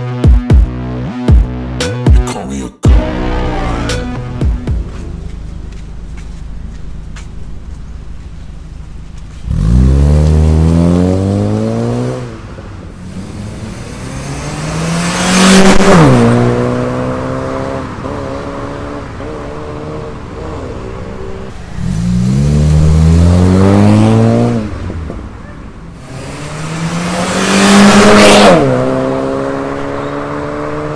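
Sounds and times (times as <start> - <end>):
car engine revving: 2.8 - 30.9.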